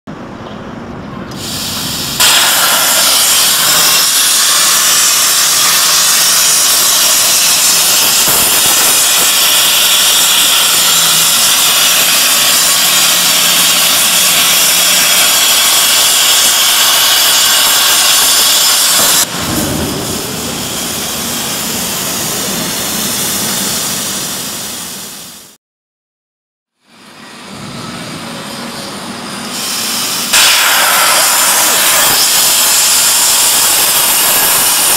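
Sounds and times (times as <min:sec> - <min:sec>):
plasma torch hissing: 0:01.3 - 0:25.6, 0:29.5 - 0:34.9.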